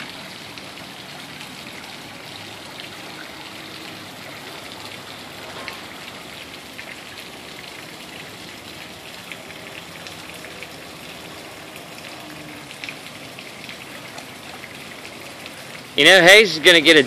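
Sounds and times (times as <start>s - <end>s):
small splashes: 0.0s - 16.0s
water splashing and trickling: 0.0s - 17.0s.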